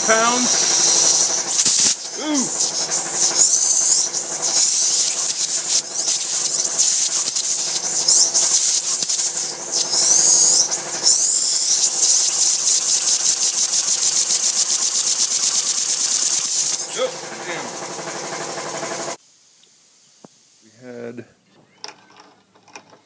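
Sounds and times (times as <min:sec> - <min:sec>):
steam engine chuffing: 0:00.0 - 0:19.2
compressed air hissing: 0:00.0 - 0:20.8.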